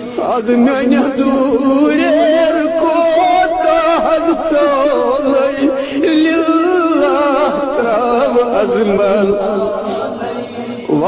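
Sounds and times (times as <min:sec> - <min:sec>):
person singing a hymn unaccompanied: 0:00.0 - 0:11.0.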